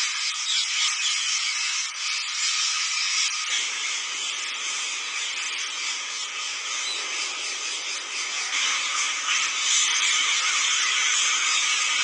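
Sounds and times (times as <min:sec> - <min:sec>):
flock of parakeets calling: 0:00.0 - 0:12.0.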